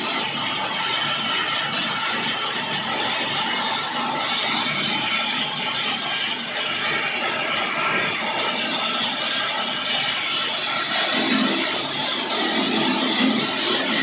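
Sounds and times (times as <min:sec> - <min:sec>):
belt-driven mill running: 0:00.0 - 0:14.0.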